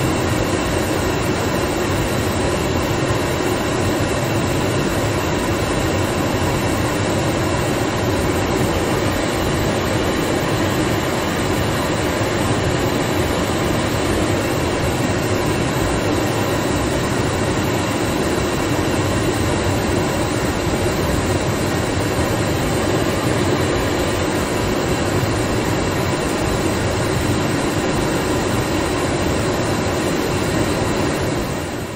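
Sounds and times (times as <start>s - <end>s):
car heater blower running: 0.0s - 31.9s.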